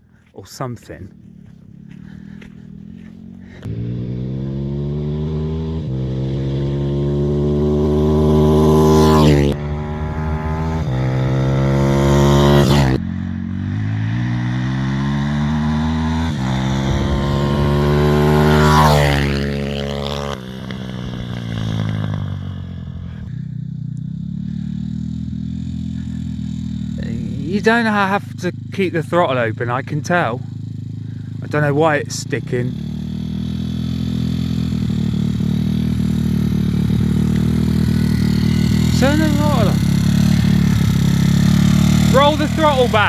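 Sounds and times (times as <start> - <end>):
motorbike engine revving: 1.1 - 43.0.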